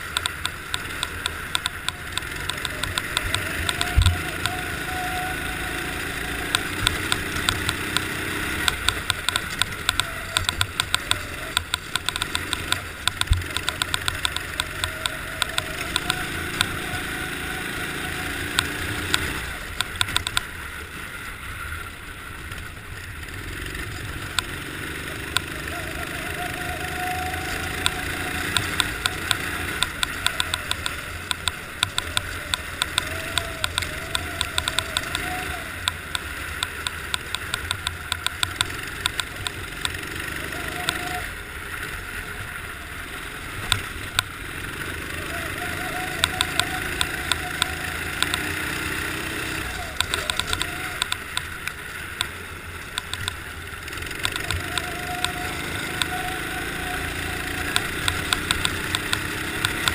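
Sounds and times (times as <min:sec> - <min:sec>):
sharp clicks: 0:00.0 - 0:20.5, 0:24.0 - 0:41.1, 0:43.7 - 0:44.4, 0:45.9 - 0:56.4, 0:57.2 - 0:59.9
kart engine revving: 0:00.0 - 0:59.9.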